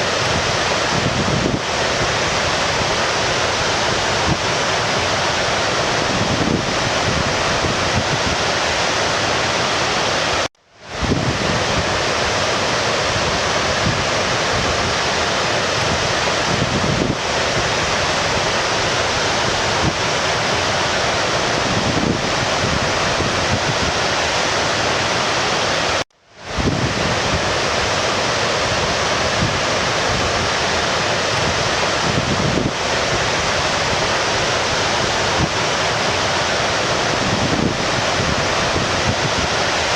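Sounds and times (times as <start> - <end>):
flowing stream water: 0.0 - 39.9.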